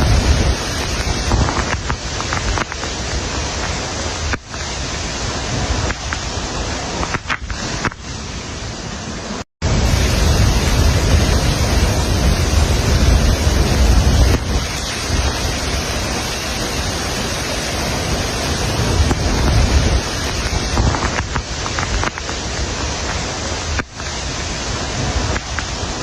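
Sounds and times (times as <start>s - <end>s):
wind buffeting microphone: 0.0s - 9.0s, 9.6s - 26.0s
water rushing: 0.0s - 26.0s.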